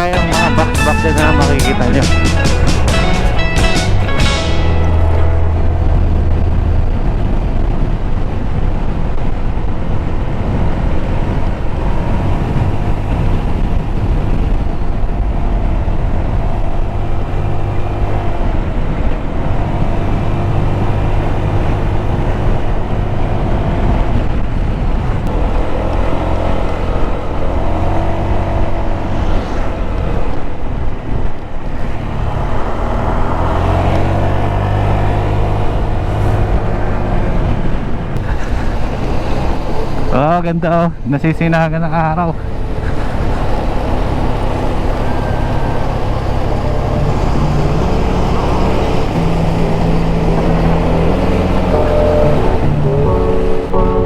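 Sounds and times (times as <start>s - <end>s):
motorcycle engine revving: 0.0s - 41.0s, 42.4s - 54.0s
wind noise: 0.0s - 54.0s.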